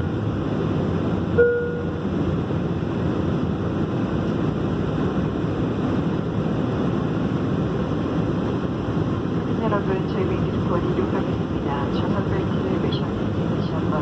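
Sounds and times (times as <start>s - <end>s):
airliner cabin engine rush: 0.0s - 14.0s.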